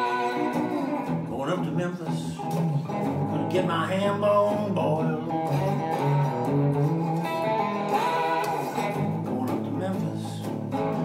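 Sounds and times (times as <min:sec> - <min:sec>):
electric guitar picked notes: 0:00.0 - 0:11.0.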